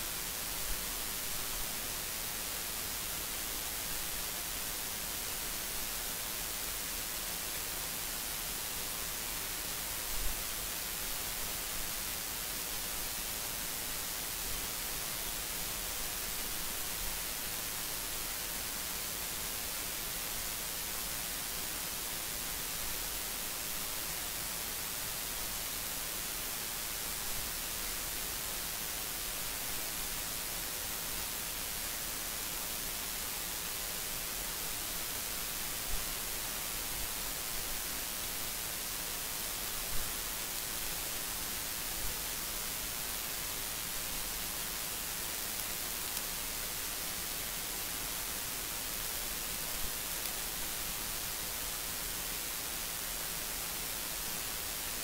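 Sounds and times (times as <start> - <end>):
recording noise hiss: 0.0 - 55.0.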